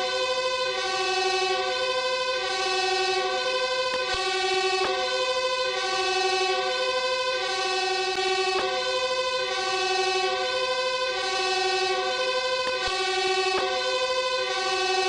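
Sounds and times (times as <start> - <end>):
two-tone fire engine siren: 0.0 - 15.0.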